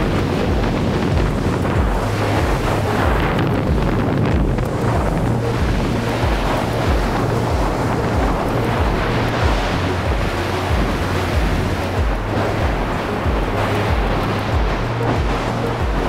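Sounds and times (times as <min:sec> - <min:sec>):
background music with bass line: 0:00.0 - 0:16.0
surf breaking on beach: 0:00.0 - 0:16.0
wind buffeting microphone: 0:00.0 - 0:16.0.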